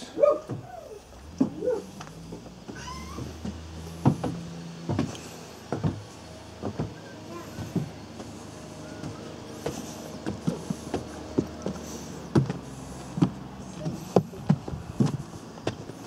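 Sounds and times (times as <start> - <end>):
footsteps on wooden steps: 0.2 - 16.0.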